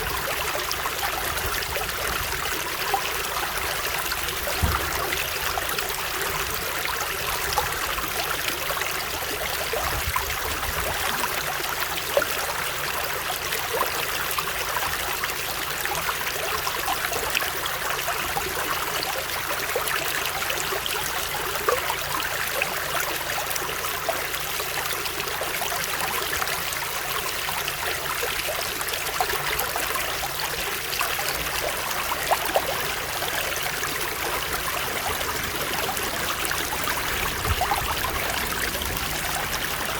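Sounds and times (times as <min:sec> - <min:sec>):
stream water rushing: 0:00.0 - 0:39.9
water splashes: 0:00.0 - 0:39.9.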